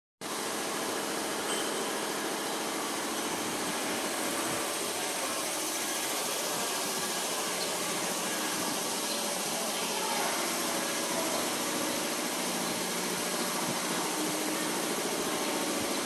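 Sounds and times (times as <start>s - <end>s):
steady mechanical drone: 0.2s - 16.0s.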